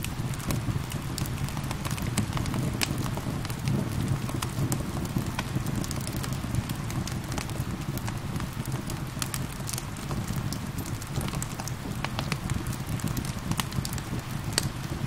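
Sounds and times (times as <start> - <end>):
rain falling: 0.0 - 15.0
wood fire crackling and popping: 0.0 - 15.0.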